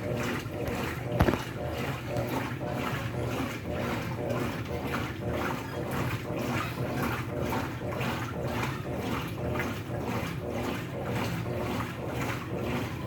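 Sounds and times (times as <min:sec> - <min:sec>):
washing machine motor hum: 0:00.0 - 0:13.0
water sloshing: 0:00.0 - 0:13.0.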